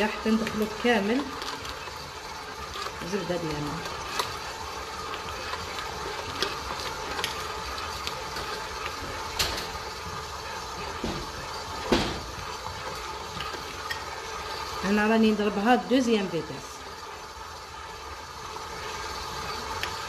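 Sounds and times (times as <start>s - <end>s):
stand mixer running: 0.0s - 20.0s.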